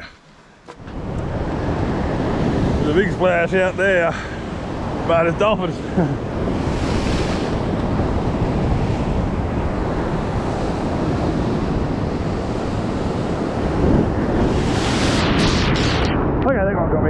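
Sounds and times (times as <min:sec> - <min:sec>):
ocean surf washing: 0:00.0 - 0:16.6
wind rumbling on microphone: 0:00.8 - 0:17.0.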